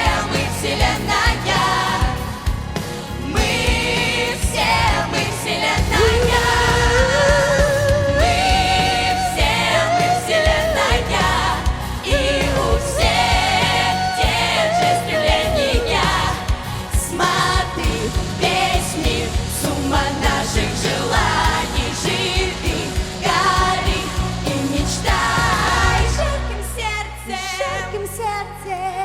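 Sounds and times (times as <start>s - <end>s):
backing track with beat: 0.0s - 26.2s
children singing pop song: 0.0s - 29.0s.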